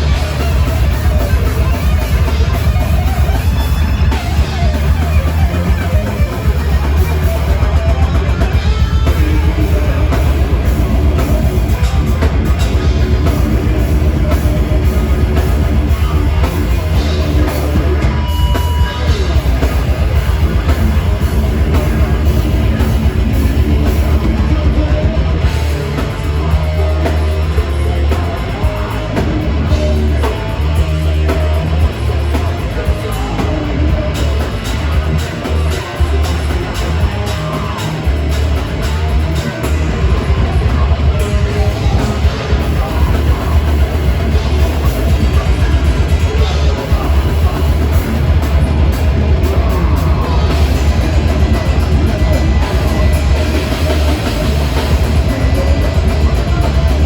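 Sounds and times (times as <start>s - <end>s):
distorted guitars: 0.0s - 57.0s
fast drumming: 0.0s - 57.0s
heavy bass: 0.0s - 57.0s.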